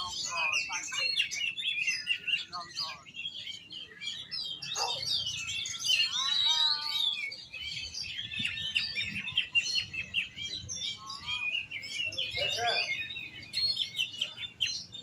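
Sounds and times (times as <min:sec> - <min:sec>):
bird singing chirps and whistles: 0:00.0 - 0:15.0.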